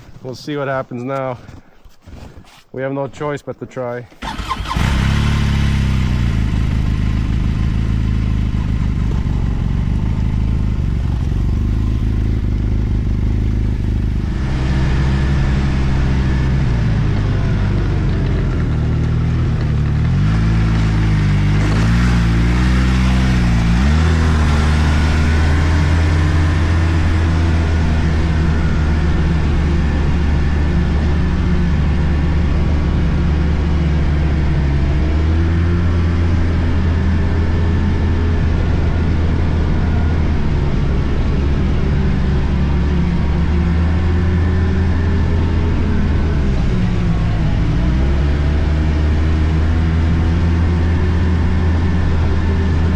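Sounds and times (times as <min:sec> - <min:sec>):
snowmobile engine running: 0:04.2 - 0:52.9.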